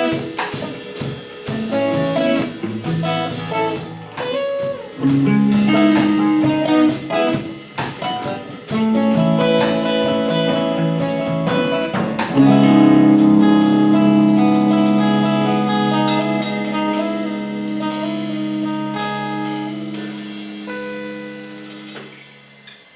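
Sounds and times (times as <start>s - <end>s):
electric guitar notes and chords: 0.0s - 22.9s.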